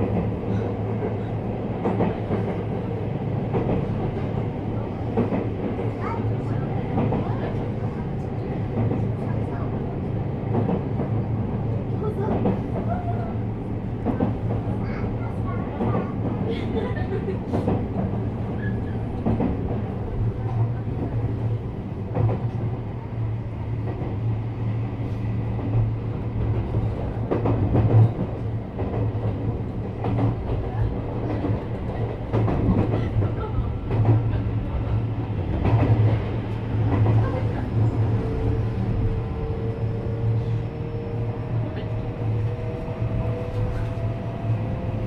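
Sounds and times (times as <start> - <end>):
electric train rumbling: 0.0 - 45.0
steady train whine: 0.0 - 45.0.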